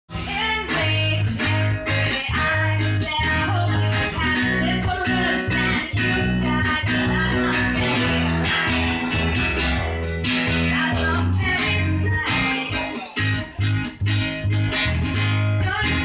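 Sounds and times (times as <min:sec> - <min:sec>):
live band playing: 0:00.2 - 0:16.0.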